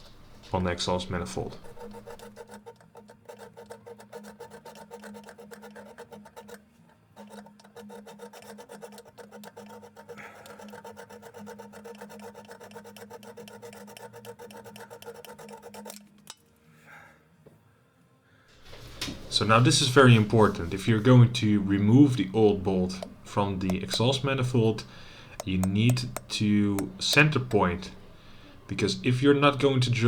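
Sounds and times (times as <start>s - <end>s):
saw cutting through steel: 0.0s - 16.0s, 19.4s - 30.0s.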